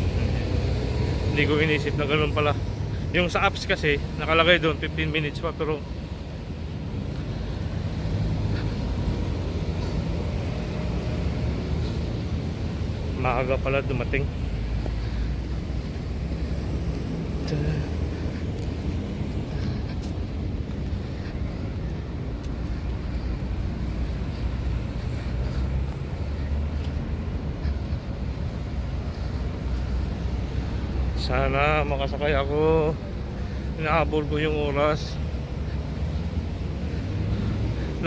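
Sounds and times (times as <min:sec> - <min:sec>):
road traffic: 0:00.0 - 0:38.0
vehicle engine rumble: 0:00.0 - 0:38.0.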